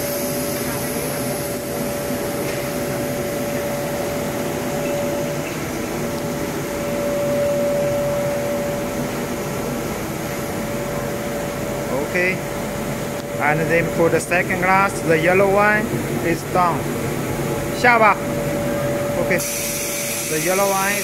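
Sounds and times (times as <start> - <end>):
blower motor hum and whine: 0.0 - 21.0.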